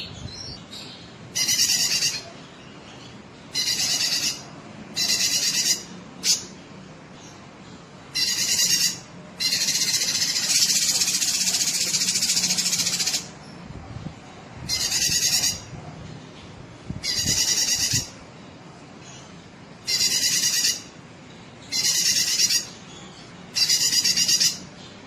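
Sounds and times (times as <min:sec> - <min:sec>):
bird chattering song: 0:00.0 - 0:06.6, 0:08.1 - 0:13.4, 0:14.7 - 0:15.8, 0:17.0 - 0:18.2, 0:19.0 - 0:25.0.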